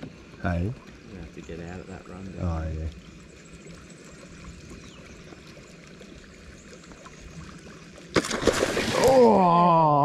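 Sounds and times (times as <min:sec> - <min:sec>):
river water trickling: 0:00.0 - 0:10.0.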